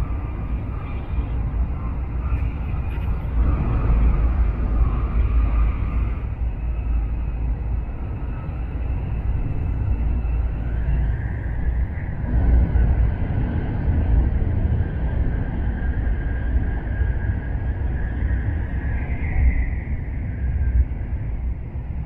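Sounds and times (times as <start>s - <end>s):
faint high whine: 0.0s - 22.0s
train low rumble: 0.0s - 22.0s.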